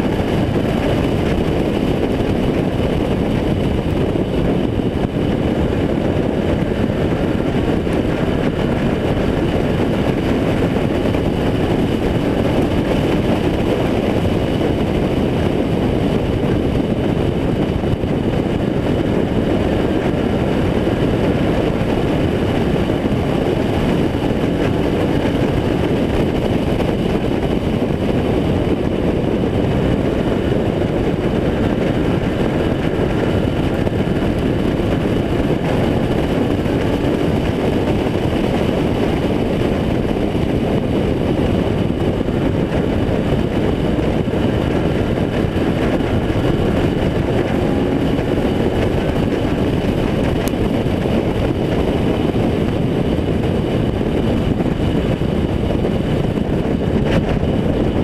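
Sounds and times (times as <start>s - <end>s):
race car engine drone: 0.0s - 58.0s.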